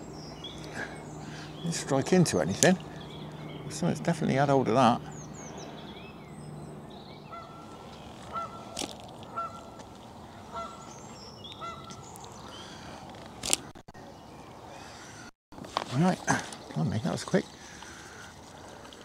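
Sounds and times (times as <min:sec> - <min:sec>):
water bird calling: 0:00.0 - 0:15.3, 0:15.9 - 0:19.0
steady outdoor hiss: 0:00.0 - 0:19.0.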